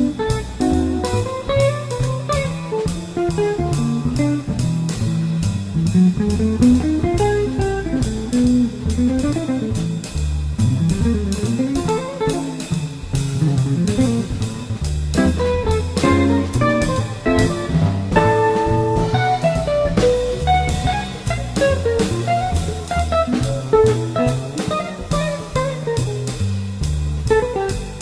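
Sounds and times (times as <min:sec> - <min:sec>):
drums on cymbals: 0:00.0 - 0:28.0
electric guitar improvising: 0:00.0 - 0:28.0
walking upright bass: 0:00.0 - 0:28.0.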